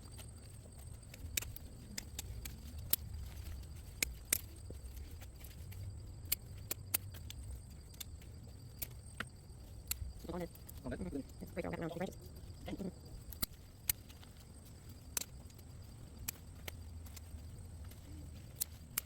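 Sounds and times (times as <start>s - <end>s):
sharp clicks and snaps: 0.0s - 11.4s, 12.6s - 19.0s.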